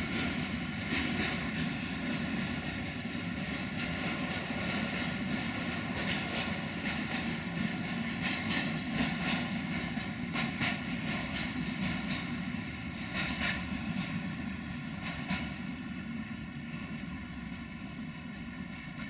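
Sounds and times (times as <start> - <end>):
wheels clacking over rails: 0.0 - 15.7
freight train rumble in tunnel: 0.0 - 19.0.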